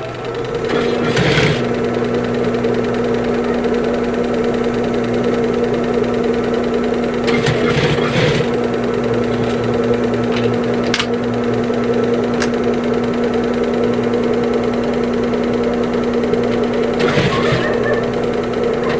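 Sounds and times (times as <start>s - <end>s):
sewing machine running: 0.0s - 18.9s.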